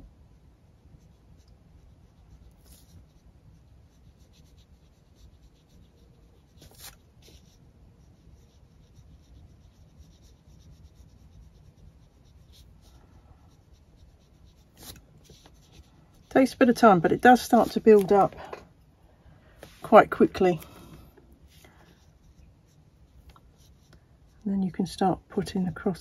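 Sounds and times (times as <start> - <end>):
paintbrush strokes on paper: 0.2 - 18.6, 19.5 - 26.0.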